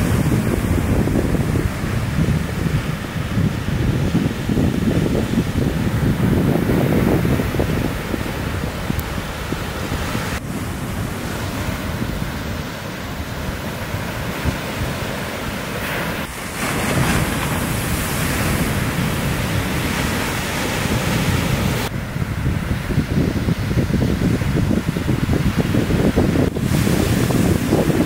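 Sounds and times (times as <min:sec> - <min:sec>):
waves breaking: 0:00.0 - 0:28.0
wind buffeting microphone: 0:00.0 - 0:28.0.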